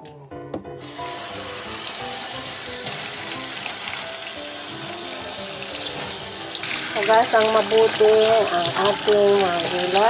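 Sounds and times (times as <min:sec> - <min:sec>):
faint background music: 0:00.0 - 0:10.0
tap water running into bowl: 0:00.8 - 0:10.0
hand rinsing leaves: 0:01.1 - 0:10.0.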